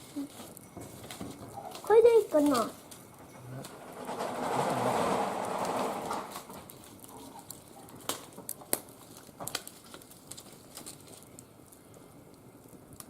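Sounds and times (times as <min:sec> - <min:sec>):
wood fire crackling and popping: 0:00.0 - 0:13.0
fire rushing noise: 0:02.0 - 0:13.0.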